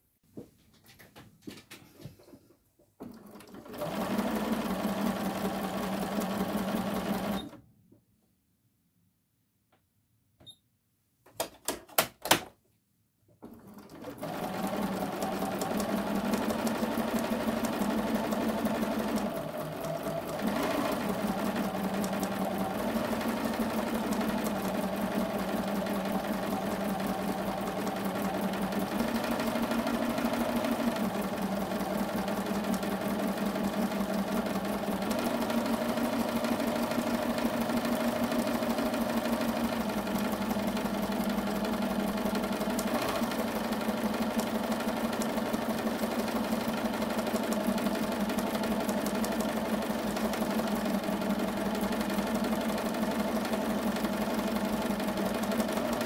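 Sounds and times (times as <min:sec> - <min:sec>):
sewing machine stitching: 0:03.0 - 0:07.6, 0:13.4 - 0:56.0.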